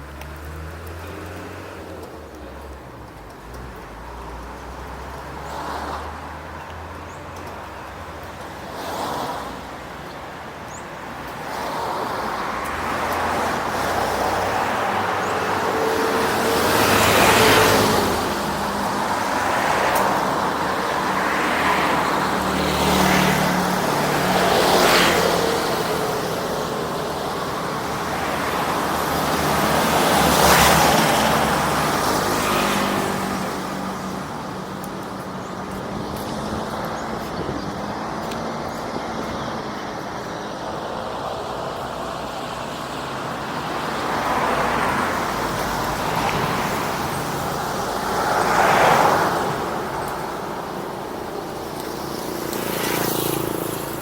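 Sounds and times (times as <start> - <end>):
road noise: 0.0 - 54.0
vehicles passing close by: 0.0 - 54.0.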